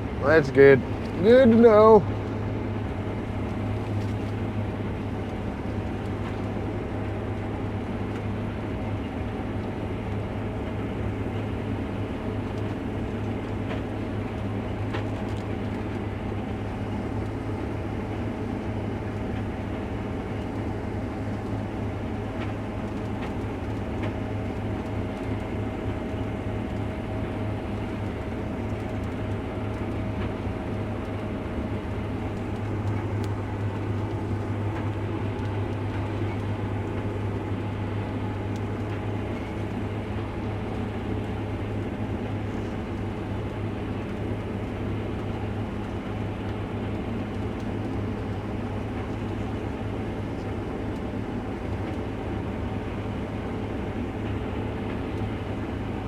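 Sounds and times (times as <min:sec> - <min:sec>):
combine harvester drone: 0:00.0 - 0:56.0
faint steady whine: 0:00.0 - 0:56.0.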